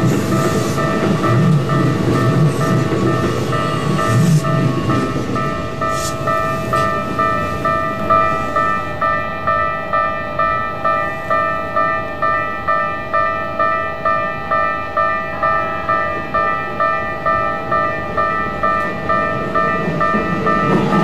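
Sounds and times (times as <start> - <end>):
level-crossing warning bell ringing: 0.0 - 21.0
train rumble: 0.0 - 21.0.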